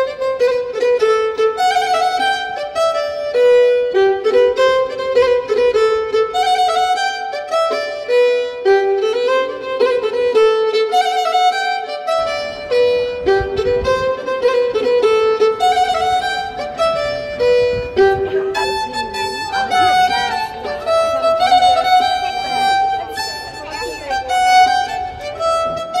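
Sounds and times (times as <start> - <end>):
solo violin melody: 0.0 - 26.0.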